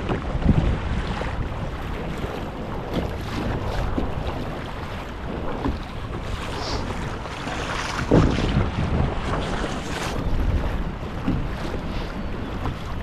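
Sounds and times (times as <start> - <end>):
water splashing around kayak: 0.0 - 13.0
wind buffeting microphone: 0.0 - 13.0.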